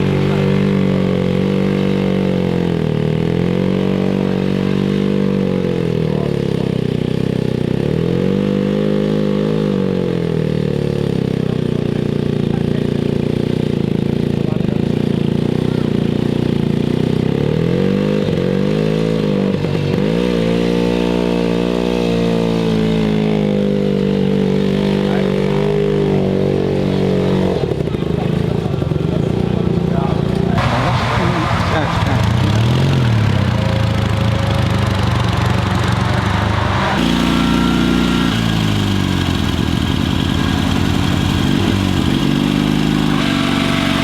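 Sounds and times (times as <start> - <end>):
motorcycle engine labouring in mud: 0.0 - 44.0.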